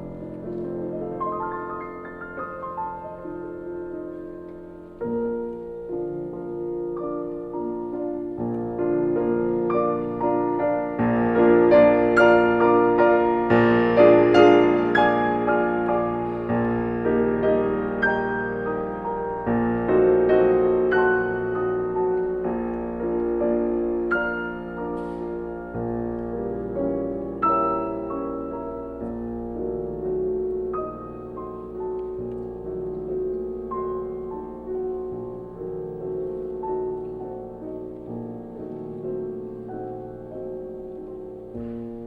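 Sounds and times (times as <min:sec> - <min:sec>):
gentle piano music: 0:00.0 - 0:42.0.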